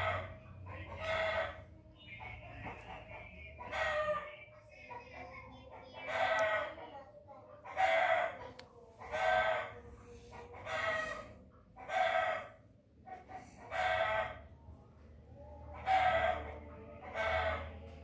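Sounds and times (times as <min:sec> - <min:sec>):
chicken calling: 0:00.0 - 0:04.4, 0:05.7 - 0:06.8, 0:07.6 - 0:14.5, 0:15.4 - 0:17.8.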